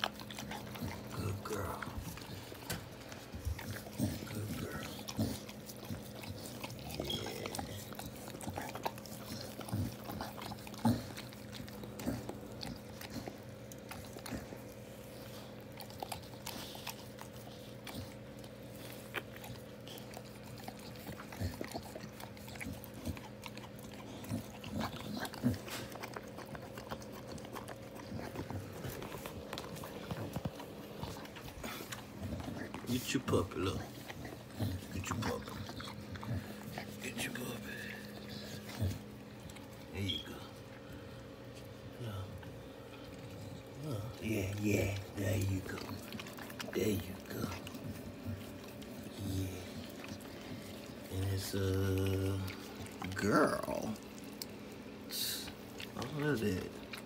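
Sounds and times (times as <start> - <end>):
dog licking and sniffing: 0.0 - 57.0.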